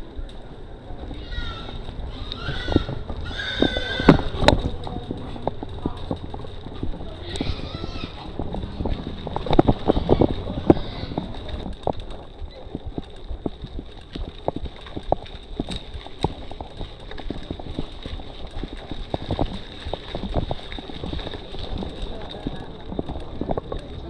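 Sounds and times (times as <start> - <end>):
bike clicks and knocks: 0.0 - 24.0
bike rolling over dirt: 0.0 - 24.0
low rumble: 0.0 - 24.0.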